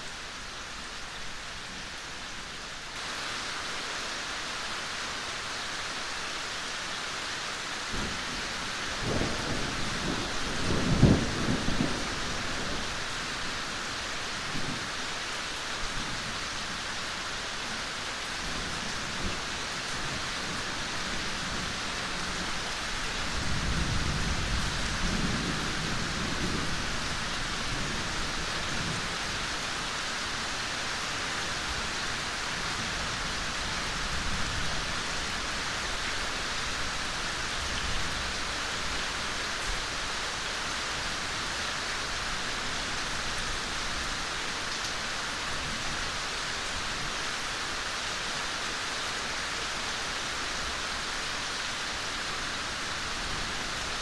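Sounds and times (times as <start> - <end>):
rain falling on foliage: 0.0 - 54.0.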